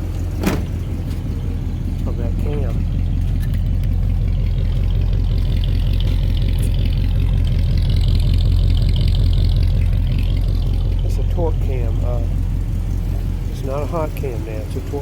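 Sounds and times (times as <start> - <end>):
engine idling roughly: 0.0 - 15.0.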